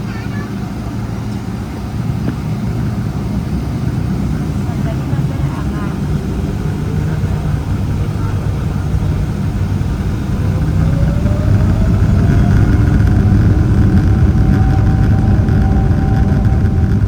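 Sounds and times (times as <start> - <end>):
jet engines spooling up: 0.0 - 17.0.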